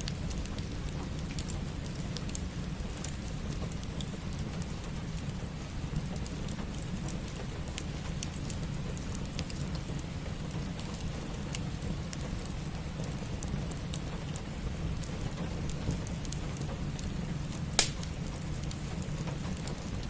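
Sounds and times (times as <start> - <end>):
steady rain: 0.0 - 20.0
wood fire crackling and popping: 0.0 - 20.0.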